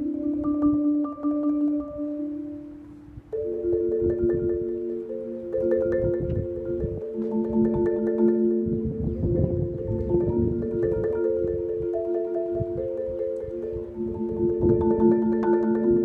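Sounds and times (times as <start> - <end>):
low wind rumble on microphone: 0.0 - 4.8, 5.6 - 16.0
marimba rolled chords: 0.0 - 16.0.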